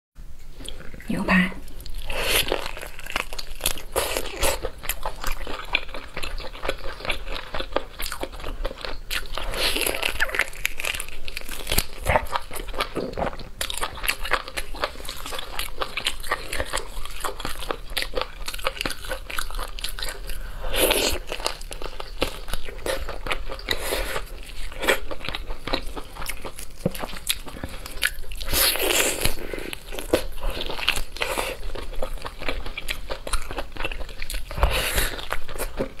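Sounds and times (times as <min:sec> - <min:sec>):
chewing and biting meat: 0:01.7 - 0:36.0.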